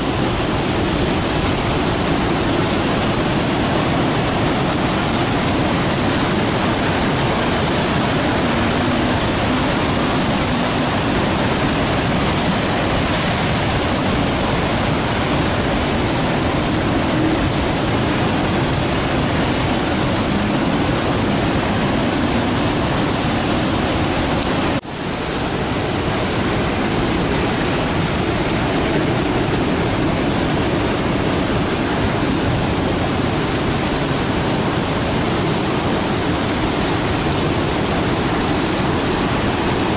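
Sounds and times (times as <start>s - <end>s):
surf breaking over rocks: 0.0s - 39.9s.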